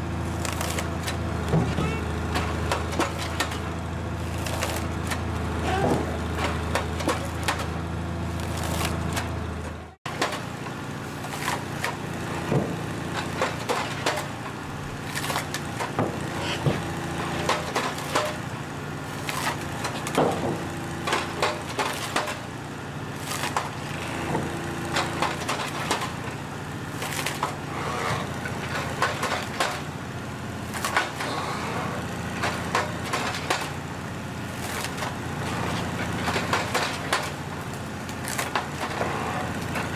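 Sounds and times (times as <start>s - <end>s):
heavy machine engine running: 0.0s - 39.9s
wood cracking and splintering: 0.1s - 22.4s, 23.1s - 31.4s, 32.0s - 39.9s.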